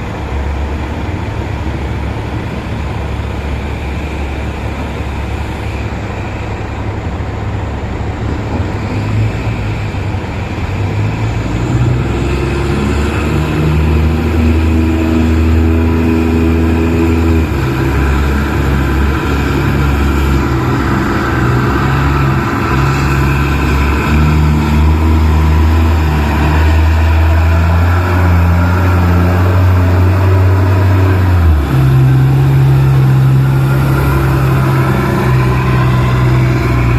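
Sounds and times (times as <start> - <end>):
large diesel engine under load: 0.0 - 36.9.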